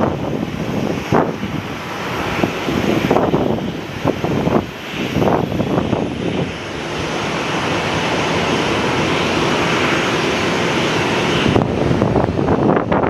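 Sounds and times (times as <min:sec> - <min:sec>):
gusty wind on microphone: 0:00.0 - 0:13.0.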